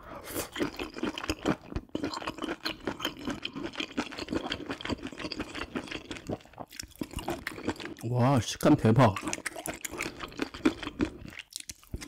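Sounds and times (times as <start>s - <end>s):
chewing clicks and smacks: 0.5s - 8.0s, 9.1s - 12.0s.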